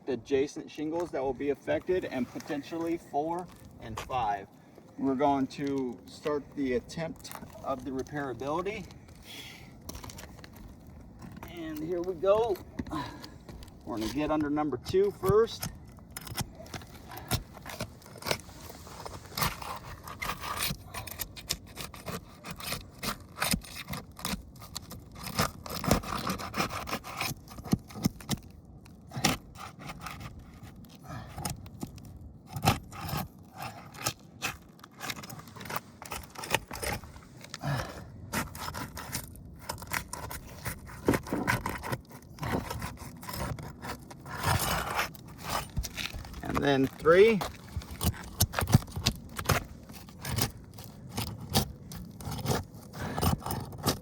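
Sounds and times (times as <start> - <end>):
tool scraping roof shingles: 5.1 - 54.0.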